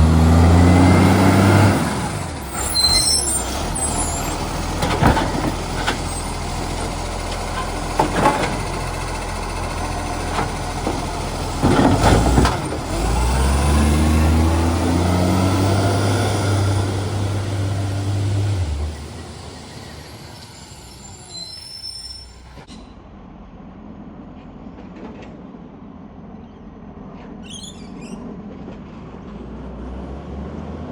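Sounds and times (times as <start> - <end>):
garbage truck engine running: 0.0 - 25.2.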